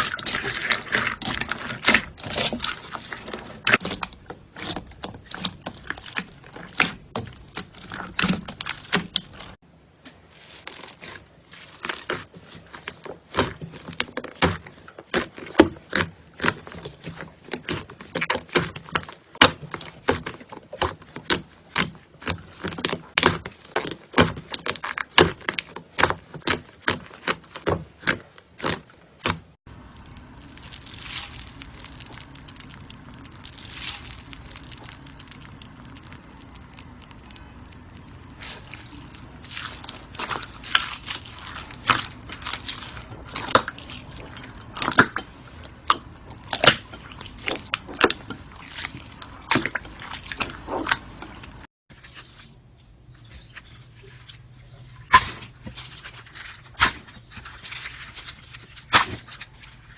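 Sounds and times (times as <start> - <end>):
slime squishing: 0.0 - 9.6, 10.2 - 59.9.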